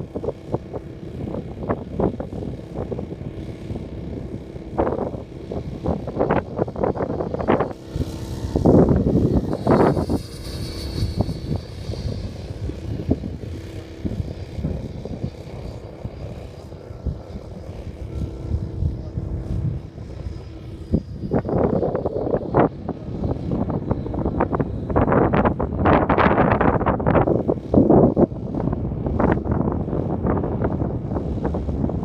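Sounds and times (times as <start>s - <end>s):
model airplane propeller motor droning: 0.0s - 32.0s
wind buffeting microphone: 0.0s - 32.0s.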